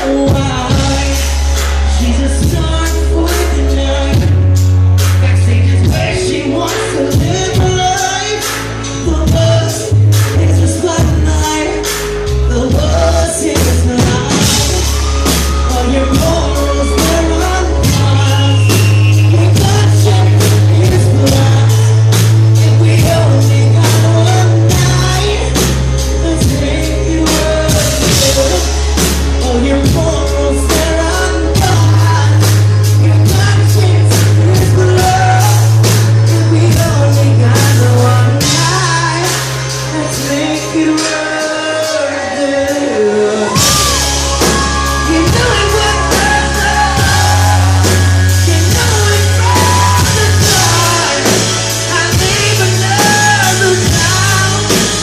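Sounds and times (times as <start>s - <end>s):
steady drum beat: 0.0s - 42.0s, 43.5s - 55.0s
deep bass notes: 0.0s - 55.0s
man singing: 0.0s - 55.0s.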